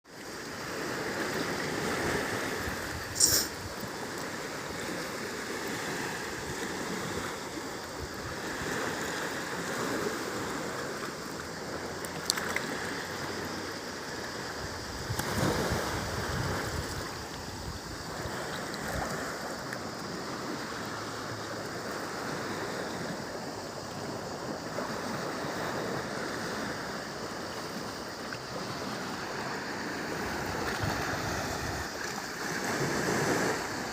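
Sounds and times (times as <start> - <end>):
small waves washing on beach: 0.1 - 33.9.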